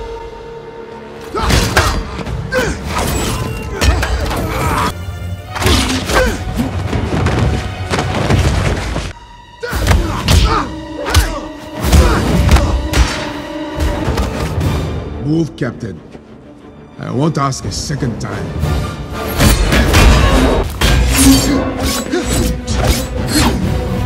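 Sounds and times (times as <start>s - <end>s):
action score music: 0.0s - 24.0s.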